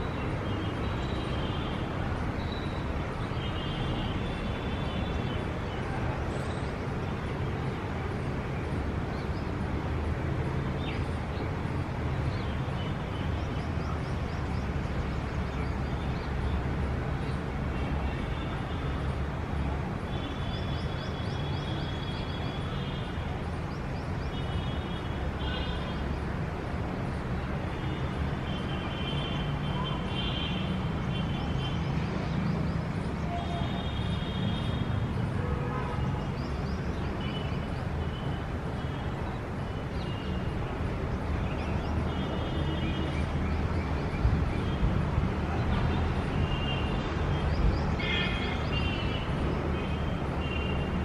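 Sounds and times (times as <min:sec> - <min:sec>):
city traffic rumble: 0:00.0 - 0:51.0.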